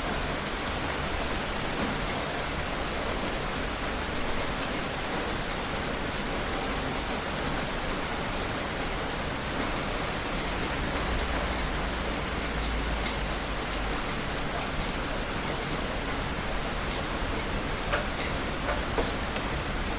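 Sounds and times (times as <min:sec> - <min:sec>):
heavy rain: 0:00.0 - 0:19.9.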